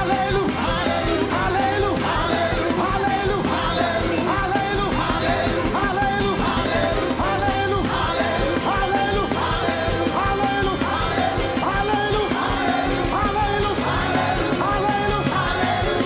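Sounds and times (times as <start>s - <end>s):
live band playing praise music: 0.0s - 16.0s
many voices singing and shouting: 0.0s - 16.0s.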